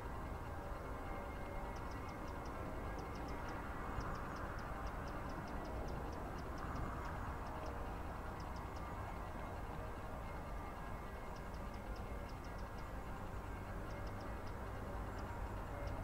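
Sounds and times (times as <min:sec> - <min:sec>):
faint high-pitched ticks: 0:00.0 - 0:16.0.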